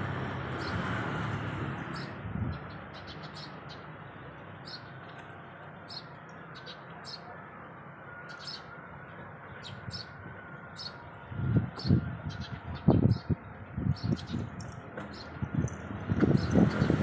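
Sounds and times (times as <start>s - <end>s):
birds chirping: 0.4s - 17.0s.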